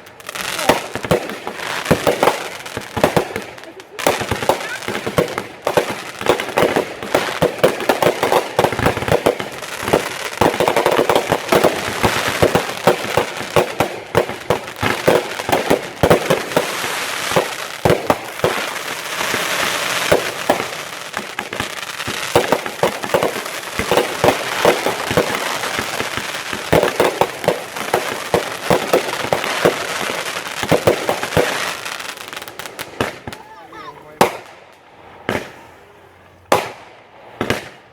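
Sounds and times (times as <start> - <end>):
fireworks bangs and crackling: 0.0 - 37.9.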